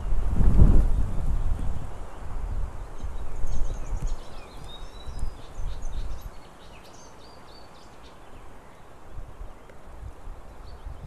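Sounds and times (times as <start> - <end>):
wind rumbling on microphone: 0.0 - 6.8, 8.2 - 11.0.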